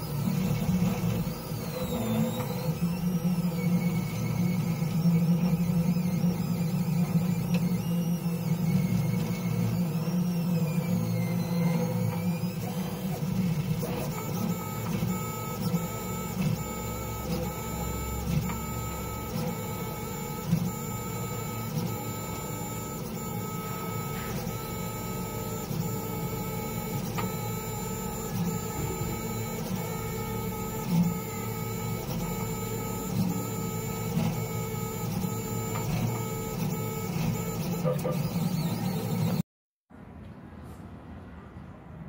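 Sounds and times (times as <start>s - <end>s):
stepper motors whining: 0.0s - 39.4s.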